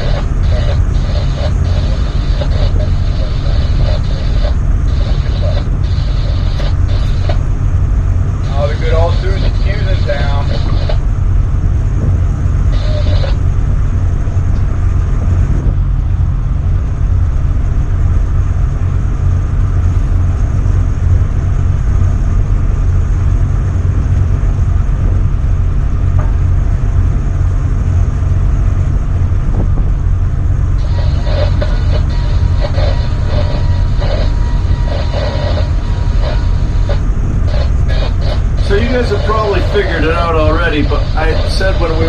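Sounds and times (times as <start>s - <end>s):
tugboat diesel engine rumble: 0.0s - 42.0s
wind noise: 0.0s - 42.0s.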